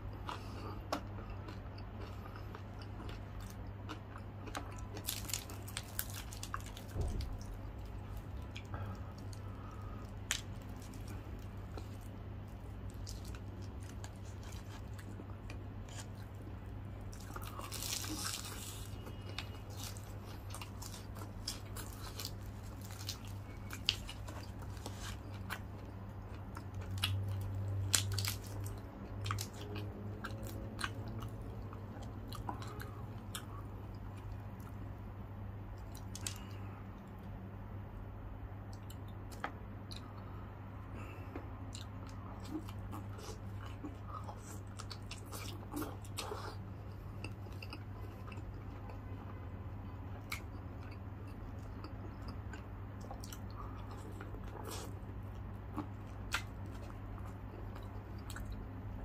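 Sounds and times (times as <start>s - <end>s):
steady low hum: 0.0s - 59.0s
crunching fried chicken: 0.1s - 34.8s, 35.8s - 36.7s, 41.0s - 59.0s.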